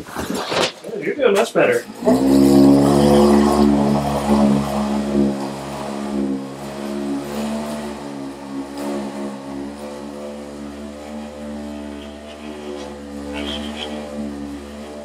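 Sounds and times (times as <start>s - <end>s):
motor hum: 1.8s - 15.0s.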